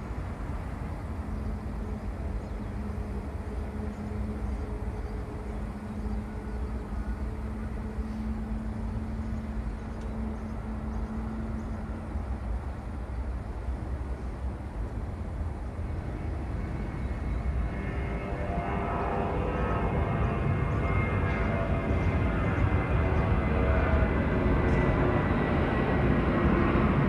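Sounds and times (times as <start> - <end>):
distant jet engines rumbling: 0.0 - 27.0.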